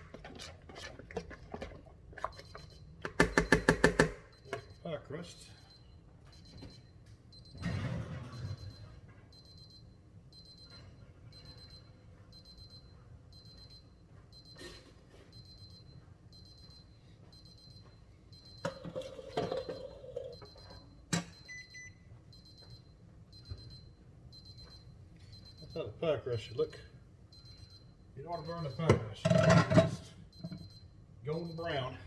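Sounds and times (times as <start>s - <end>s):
oven timer beeping: 2.2s - 32.0s.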